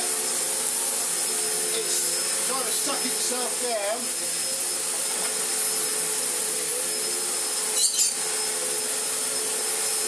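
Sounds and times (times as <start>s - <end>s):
upright vacuum cleaner whining: 0.0s - 10.0s.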